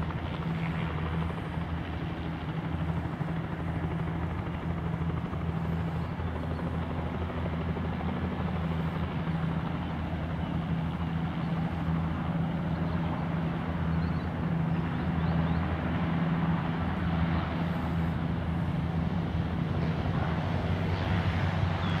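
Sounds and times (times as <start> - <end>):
helicopter engines and rotors droning: 0.0 - 22.0.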